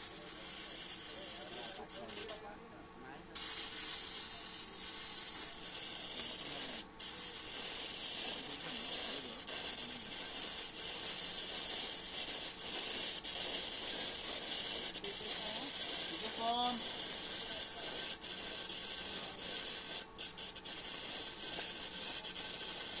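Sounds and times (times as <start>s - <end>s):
welding arc hissing: 0.0s - 2.4s, 3.4s - 23.0s.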